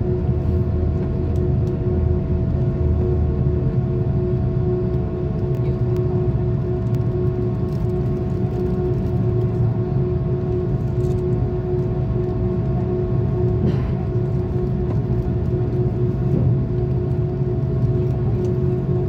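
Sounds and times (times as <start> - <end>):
jet engines heard from cabin: 0.0 - 19.0.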